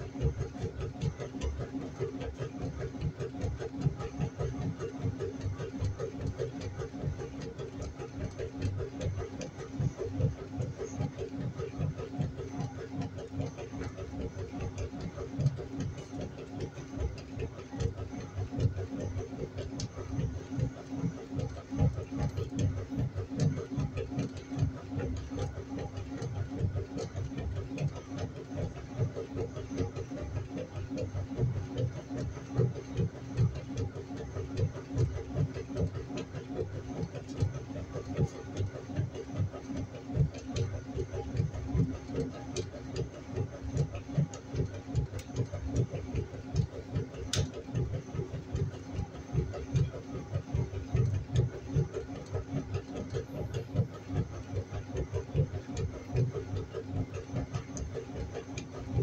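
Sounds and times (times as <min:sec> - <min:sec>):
washing machine hum: 0:00.0 - 0:59.0.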